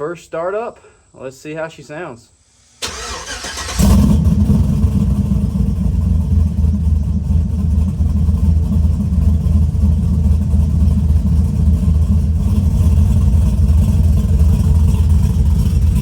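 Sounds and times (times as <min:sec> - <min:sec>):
loping engine idling: 0:02.8 - 0:16.0.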